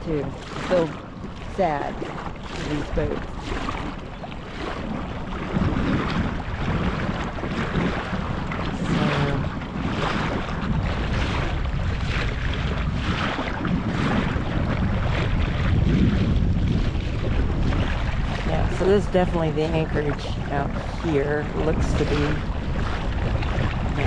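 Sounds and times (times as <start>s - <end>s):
choppy water: 0.0s - 24.0s
wind buffeting microphone: 0.0s - 24.0s.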